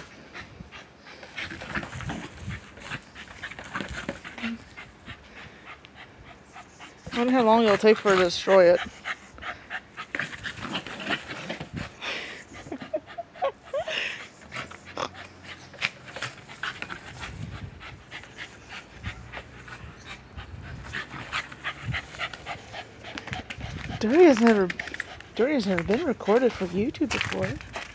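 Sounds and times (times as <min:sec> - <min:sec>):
dog panting: 0:00.0 - 0:27.9.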